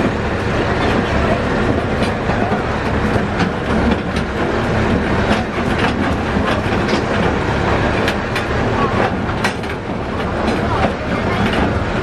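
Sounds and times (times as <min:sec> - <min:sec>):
tractor engine rumble: 0:00.0 - 0:12.0
wagons rattling and clacking: 0:00.0 - 0:12.0.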